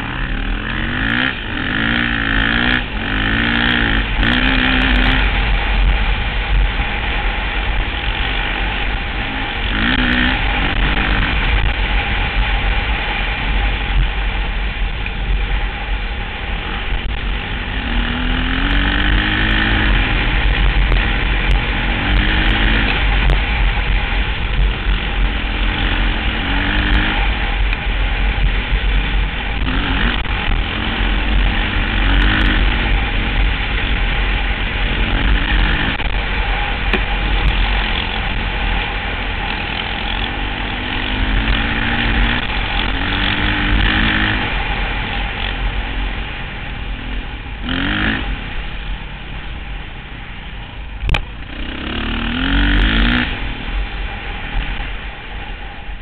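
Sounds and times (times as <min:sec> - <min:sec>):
dirt bike engine revving: 0:00.0 - 0:49.0, 0:51.0 - 0:55.1
wind on microphone: 0:00.0 - 0:56.0.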